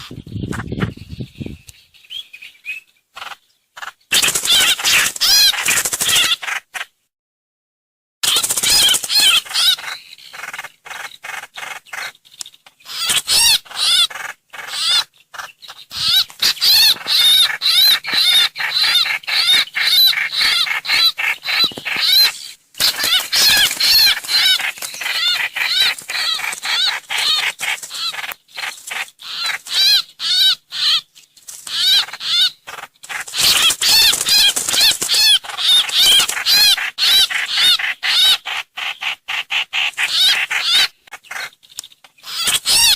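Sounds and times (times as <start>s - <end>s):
bird chattering: 0.0s - 6.9s, 8.2s - 42.9s.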